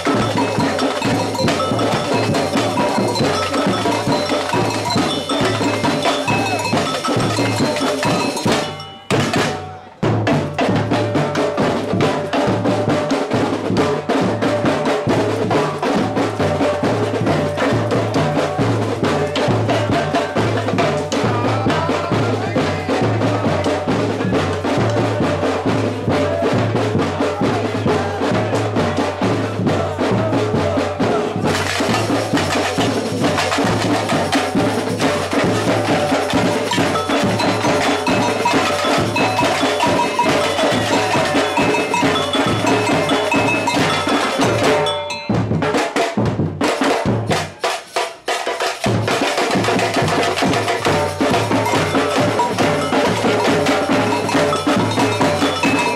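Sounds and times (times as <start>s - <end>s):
samba percussion band: 0.0s - 55.9s.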